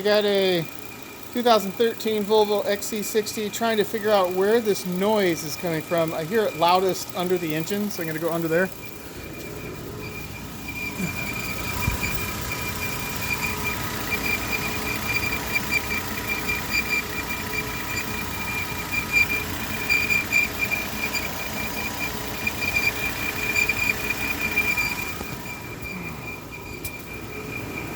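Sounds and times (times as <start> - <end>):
car engine running: 0.0 - 27.9
high-pitched engine whine: 0.0 - 27.9.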